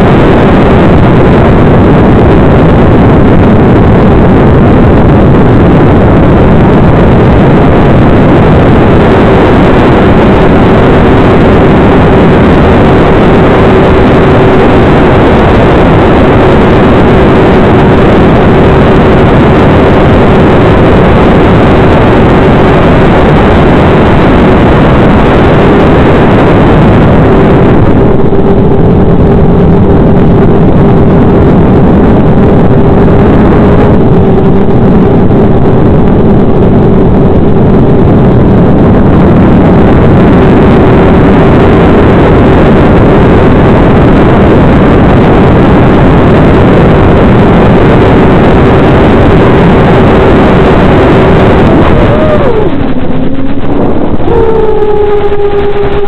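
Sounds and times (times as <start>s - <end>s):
electric motor and propeller buzzing: 0.0s - 56.0s
loud rushing noise: 0.0s - 56.0s.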